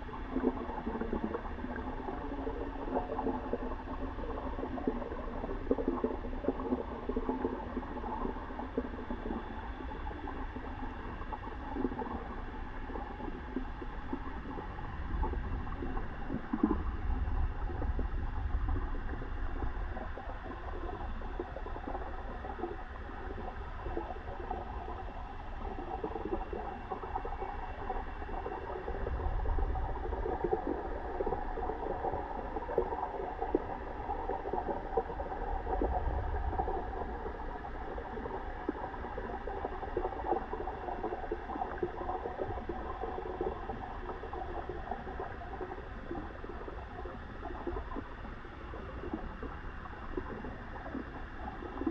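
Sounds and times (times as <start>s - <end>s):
water gurgling and bubbling: 0.0s - 51.9s.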